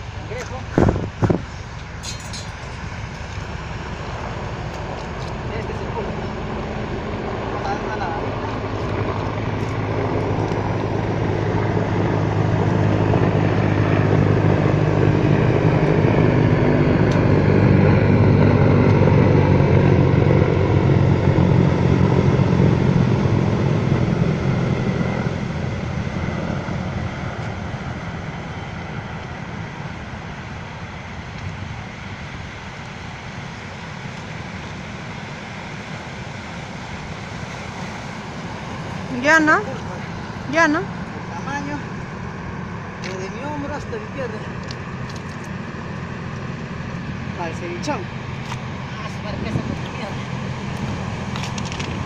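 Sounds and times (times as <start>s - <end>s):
engine passing by: 0.0s - 52.0s.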